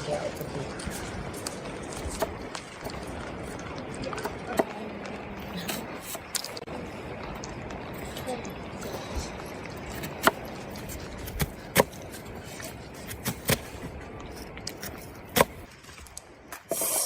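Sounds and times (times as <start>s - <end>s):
rain hissing: 0.0s - 17.0s
wood fire crackling: 0.0s - 17.0s.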